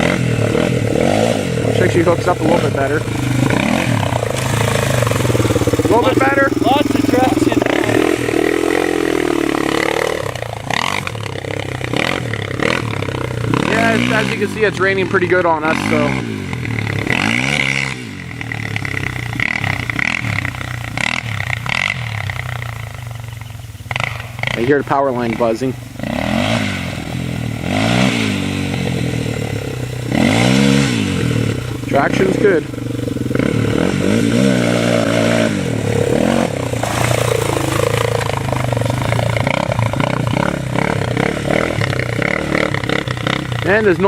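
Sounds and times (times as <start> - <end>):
constant hiss: 0.0 - 44.0
power lines buzzing: 0.0 - 44.0
quad bike engine running: 0.0 - 44.0.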